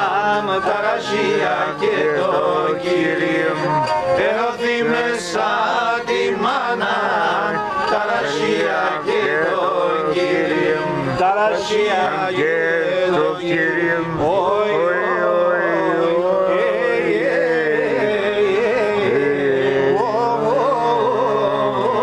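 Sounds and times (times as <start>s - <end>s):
men singing a folk song: 0.0s - 22.0s.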